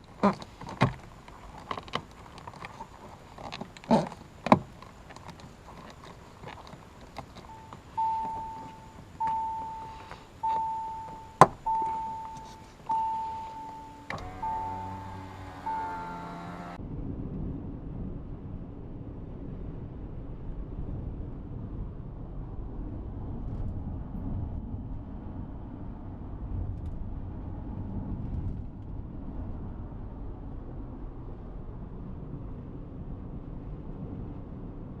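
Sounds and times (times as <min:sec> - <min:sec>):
car road and wind noise: 0:00.0 - 0:35.0.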